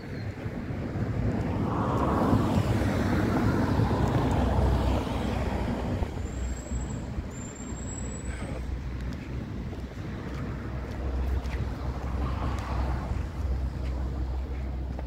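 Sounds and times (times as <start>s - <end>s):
car passing: 0.9s - 15.0s.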